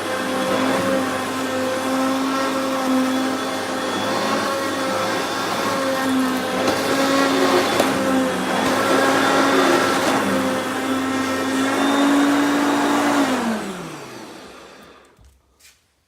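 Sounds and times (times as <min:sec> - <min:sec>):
vacuum motor winding down: 0:00.0 - 0:15.2
vacuum cleaner running: 0:00.0 - 0:15.4.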